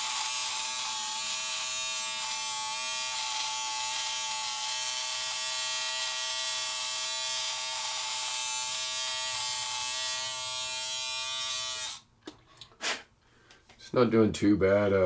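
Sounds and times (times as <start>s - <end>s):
electric shaver buzzing: 0.0s - 12.1s.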